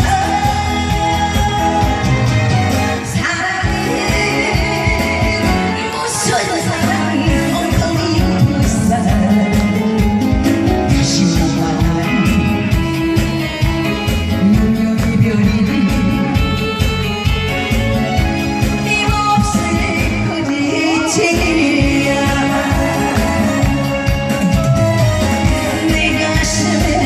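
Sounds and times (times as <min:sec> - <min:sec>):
person singing: 0:00.0 - 0:17.0, 0:18.8 - 0:27.0
band accompaniment with beat: 0:00.0 - 0:27.0.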